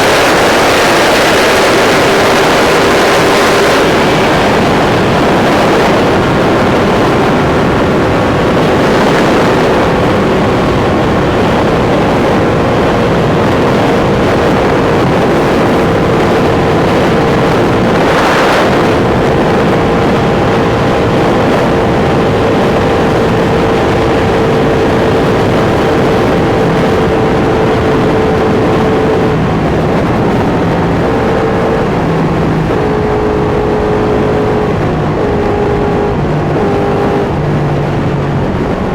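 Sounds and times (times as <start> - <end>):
motorcycle engine: 0.0 - 38.9
riding wind rush: 0.0 - 38.9.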